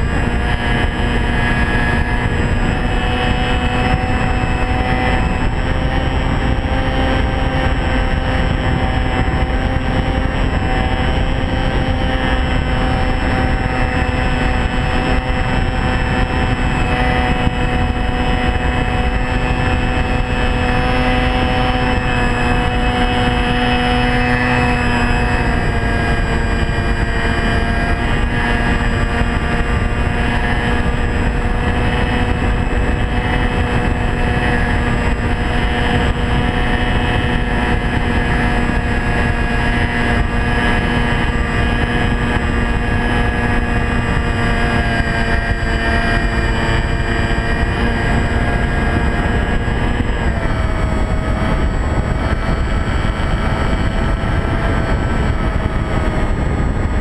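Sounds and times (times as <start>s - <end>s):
model airplane motor droning: 0.0s - 57.0s.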